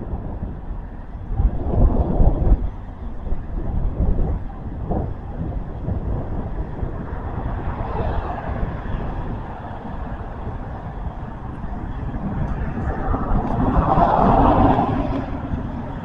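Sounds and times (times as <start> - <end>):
passing road traffic: 0.0 - 16.0
wind buffeting microphone: 0.0 - 16.0.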